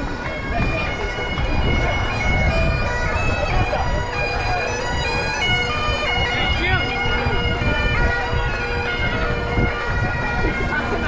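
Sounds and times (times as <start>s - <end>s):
bagpipe music: 0.0s - 11.0s.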